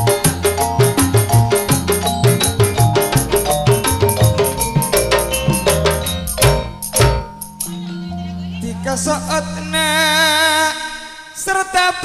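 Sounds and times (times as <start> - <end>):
fast percussion strokes: 0.0 - 9.9
stepping note melody: 0.0 - 10.6.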